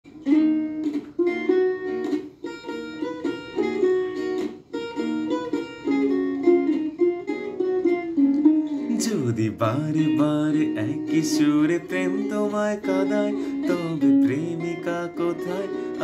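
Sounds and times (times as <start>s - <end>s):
plucked acoustic string instrument: 0.1s - 16.0s.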